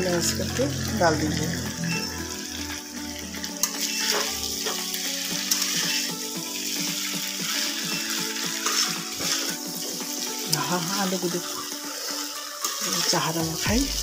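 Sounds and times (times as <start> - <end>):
potatoes sizzling in a pan: 0.0 - 14.0.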